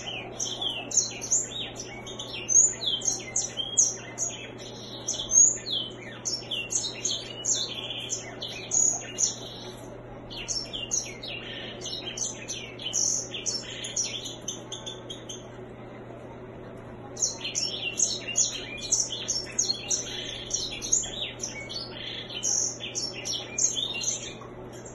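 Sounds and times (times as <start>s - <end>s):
bird chirps and trills: 0.0s - 15.7s, 17.0s - 24.9s.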